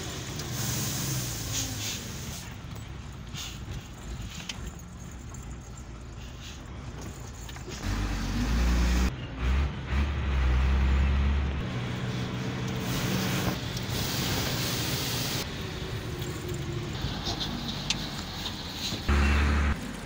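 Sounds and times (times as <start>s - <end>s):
diesel truck engine drone: 0.0s - 20.0s.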